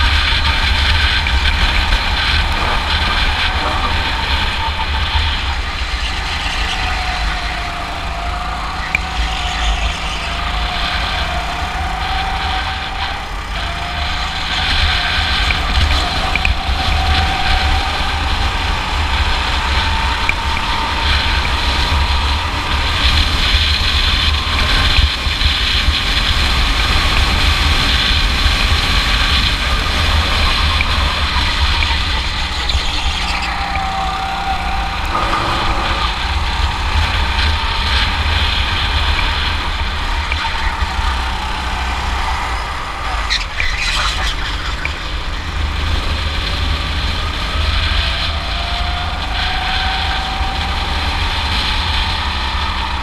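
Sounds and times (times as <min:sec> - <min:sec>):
go-kart engine running: 0:00.0 - 0:53.0
wind rumble on microphone: 0:00.0 - 0:53.0.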